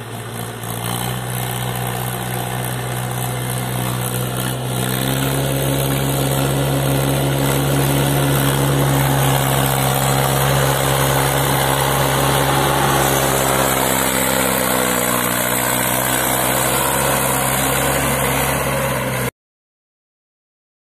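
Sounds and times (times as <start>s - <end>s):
tractor diesel engine running: 0.0s - 19.3s.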